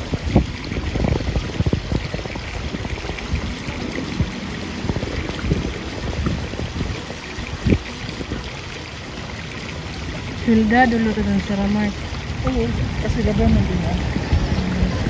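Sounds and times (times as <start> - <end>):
water spout running into pool: 0.0 - 15.0
wind rumble on microphone: 0.0 - 15.0.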